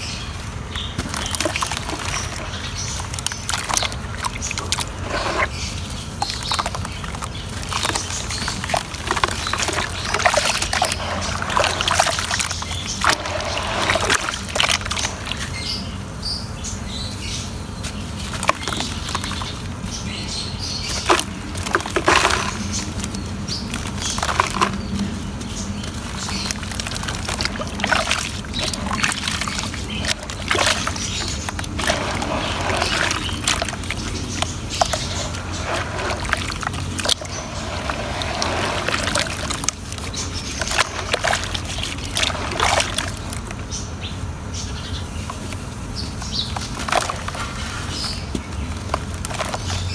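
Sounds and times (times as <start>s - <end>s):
water splashing and sloshing: 0.0s - 49.9s
cement crumbling in water: 0.7s - 15.8s, 18.2s - 20.1s, 20.7s - 43.8s, 46.2s - 49.9s.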